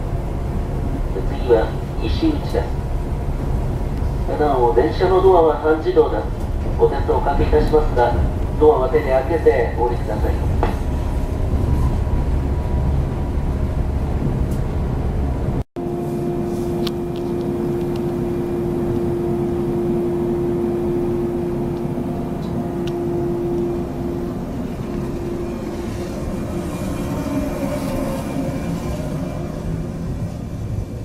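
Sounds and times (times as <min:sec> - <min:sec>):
train rumble from inside carriage: 0:00.0 - 0:31.0.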